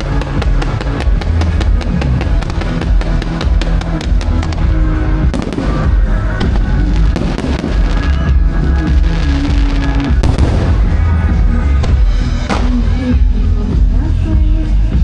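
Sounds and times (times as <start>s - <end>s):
fireworks bursting and crackling: 0.0s - 13.0s
show music with heavy bass: 0.0s - 15.0s.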